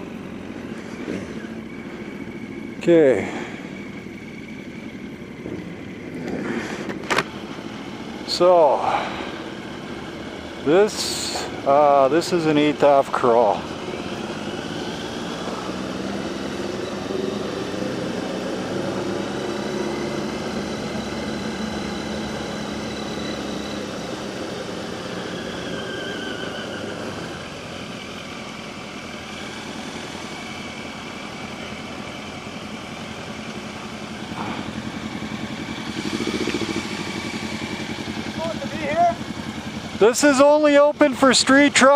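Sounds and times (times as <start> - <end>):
motorcycle engines running: 0.0 - 41.9.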